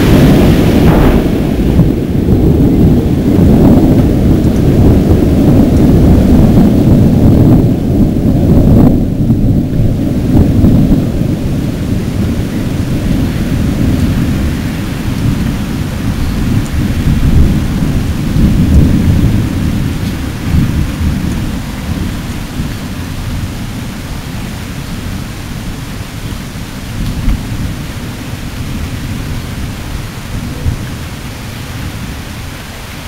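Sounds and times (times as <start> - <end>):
distant fireworks rumbling: 0.0 - 32.0.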